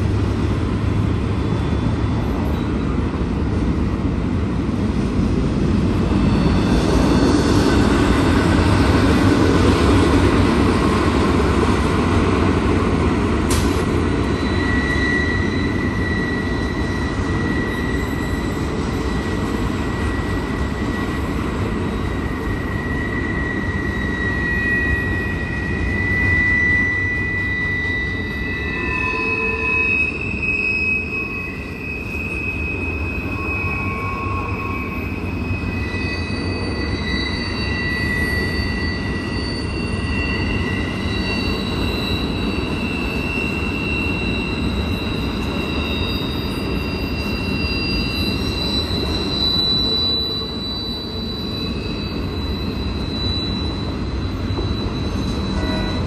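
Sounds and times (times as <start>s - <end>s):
freight train rumbling past: 0.0s - 56.0s
train wheels squealing: 0.0s - 56.0s.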